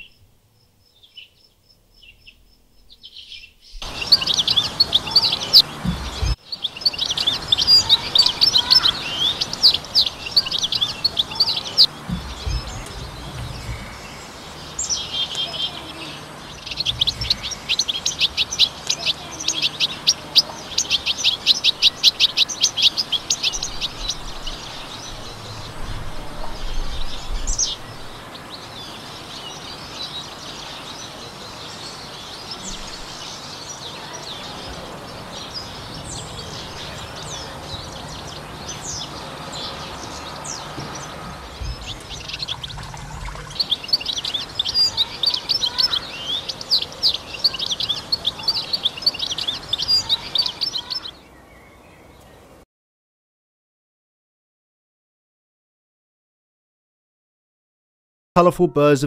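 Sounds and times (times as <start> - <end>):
goldfinch twittering song: 2.0 - 52.2.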